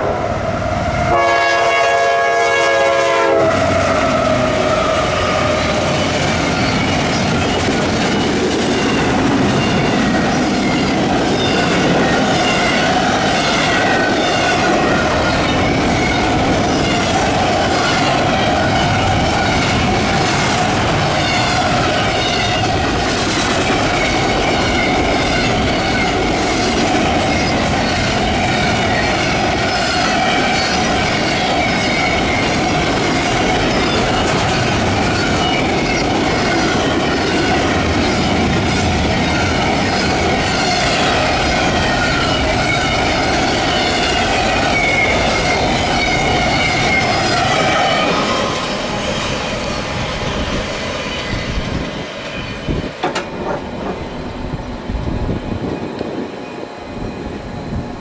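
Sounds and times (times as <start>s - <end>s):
freight train wheels on rails: 0.0s - 58.0s
high wheel squeal: 3.6s - 20.2s, 20.9s - 22.9s, 23.8s - 53.2s.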